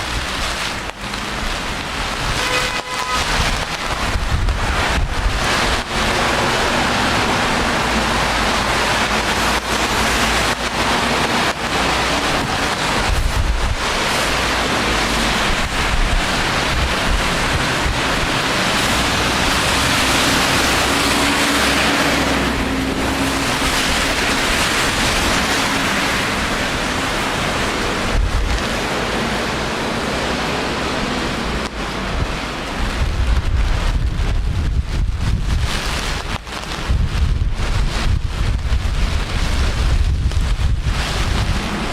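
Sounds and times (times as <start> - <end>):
rain hissing: 0.0 - 41.9
wet street traffic: 0.0 - 41.9
wind buffeting microphone: 0.0 - 41.9.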